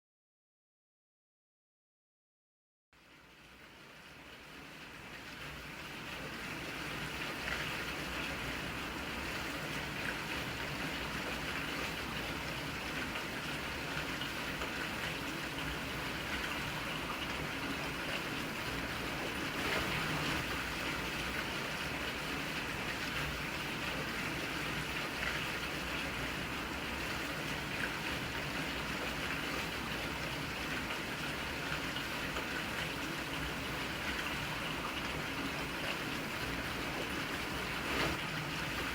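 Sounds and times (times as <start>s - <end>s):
steady rainfall: 3.3s - 38.9s.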